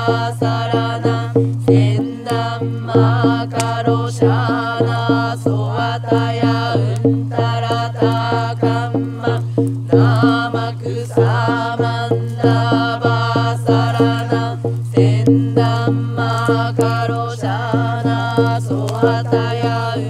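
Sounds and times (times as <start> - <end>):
regular drum beat: 0.0 - 20.0.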